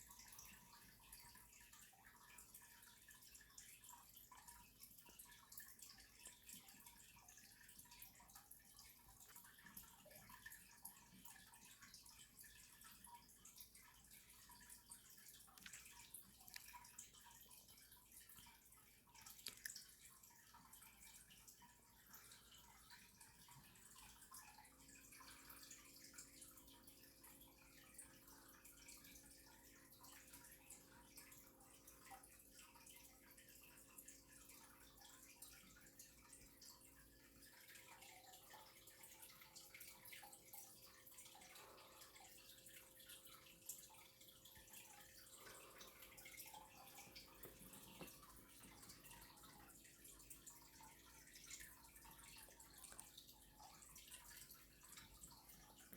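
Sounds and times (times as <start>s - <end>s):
faint steady hum: 0.0s - 55.9s
faint ticks and drips: 0.0s - 55.9s.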